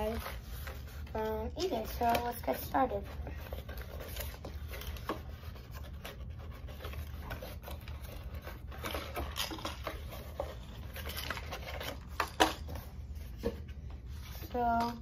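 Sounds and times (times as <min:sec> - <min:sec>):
cardboard rubbing and scraping: 0:00.0 - 0:15.0
light taps and crinkles: 0:00.0 - 0:15.0.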